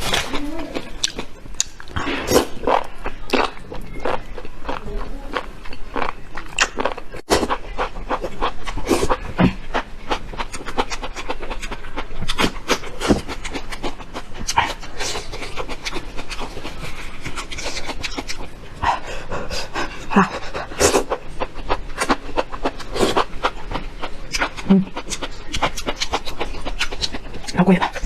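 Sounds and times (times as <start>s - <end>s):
wet chewing and smacking: 0.0s - 28.0s.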